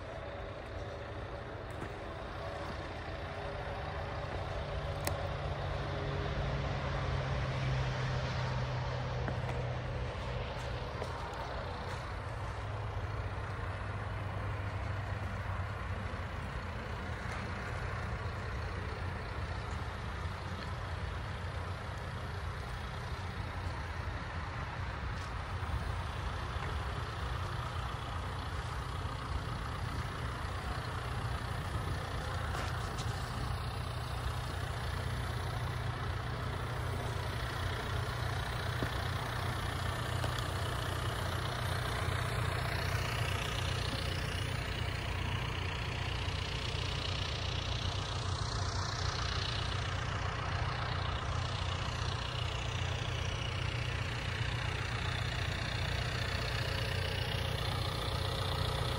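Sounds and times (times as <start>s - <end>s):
dozer diesel engine droning: 0.0s - 58.9s.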